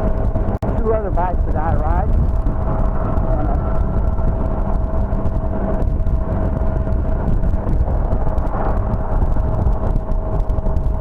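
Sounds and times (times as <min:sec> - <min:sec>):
motor scooter engine rumble: 0:00.0 - 0:11.0
steady whine: 0:00.0 - 0:11.0
wind on microphone: 0:00.0 - 0:11.0.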